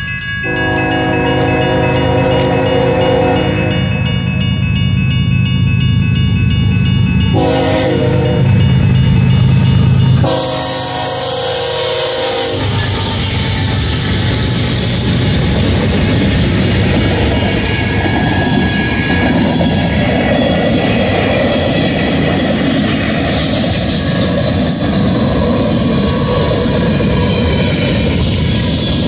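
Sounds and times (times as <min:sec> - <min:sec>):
diesel locomotives rumbling: 0:00.0 - 0:29.0
steel wheels rushing on rail: 0:00.0 - 0:29.0.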